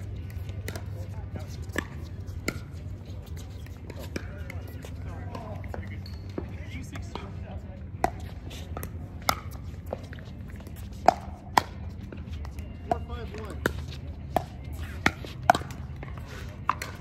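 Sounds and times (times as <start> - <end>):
faint voices: 0.0 - 17.0.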